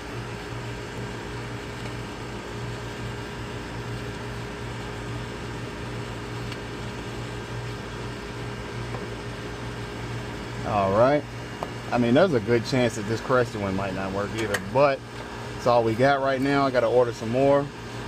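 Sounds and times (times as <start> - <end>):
air conditioner units humming: 0.0 - 18.0.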